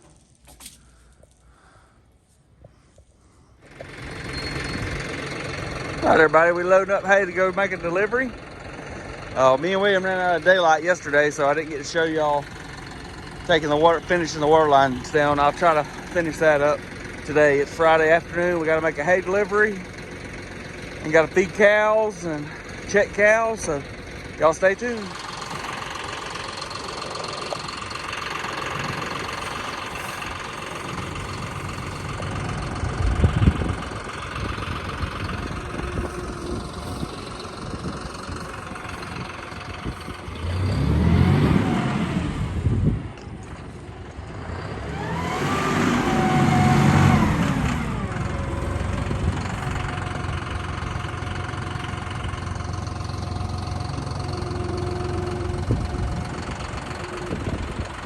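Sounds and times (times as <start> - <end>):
tractor engine revving: 3.6 - 58.0.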